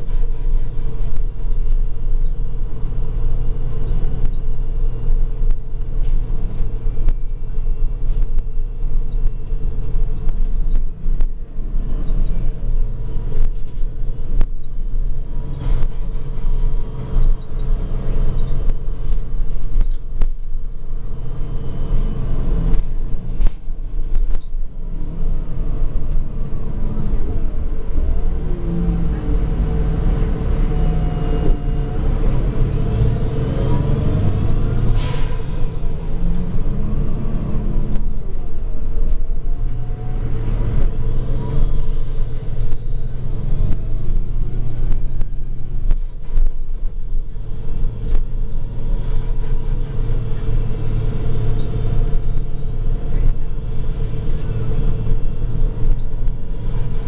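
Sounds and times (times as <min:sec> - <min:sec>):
bus engine low rumble: 0:00.0 - 0:57.0.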